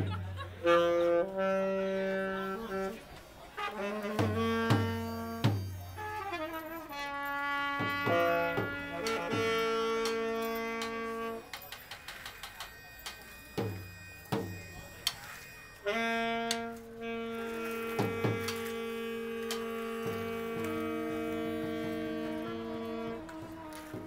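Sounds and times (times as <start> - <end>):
saxophone playing long notes: 0.4 - 24.0.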